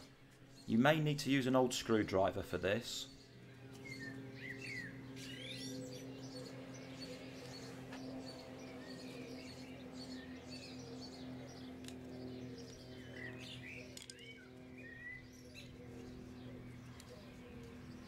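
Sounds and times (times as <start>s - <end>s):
birds chirping: 0.0s - 18.0s
faint low hum: 0.0s - 18.0s.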